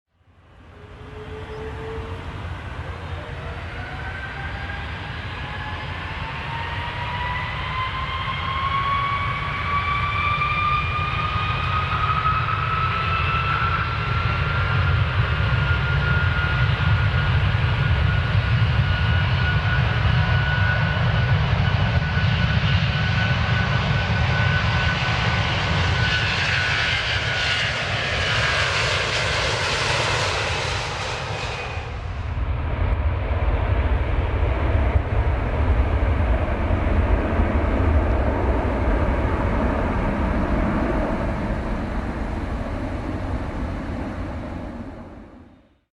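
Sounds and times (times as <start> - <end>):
jet engines spooling up: 0.6 - 45.7.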